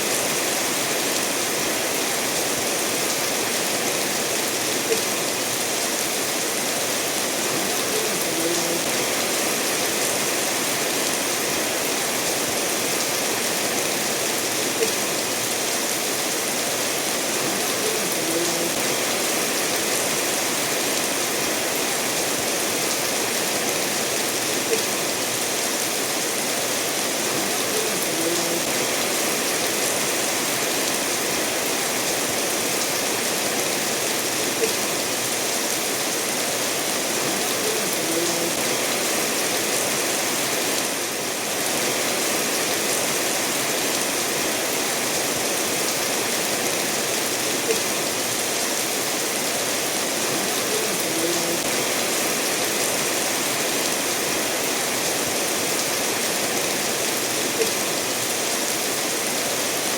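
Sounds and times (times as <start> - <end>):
rainfall: 0.0 - 59.9
stream running over stones: 0.0 - 59.9.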